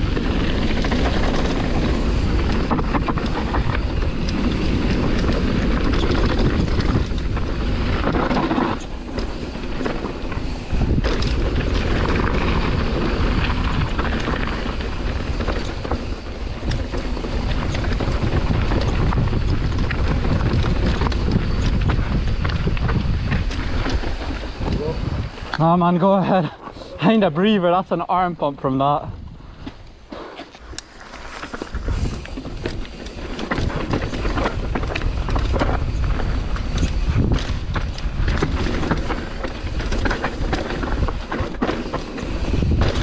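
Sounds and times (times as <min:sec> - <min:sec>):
wind buffeting microphone: 0:00.0 - 0:30.0, 0:30.6 - 0:43.0
bike rattling: 0:00.0 - 0:43.0.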